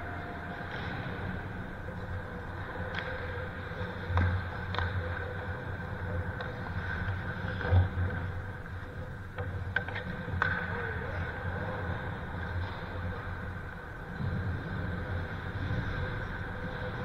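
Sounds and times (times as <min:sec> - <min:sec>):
steady rink hum: 0:00.0 - 0:17.0
hockey sticks and puck clacking: 0:00.1 - 0:14.0.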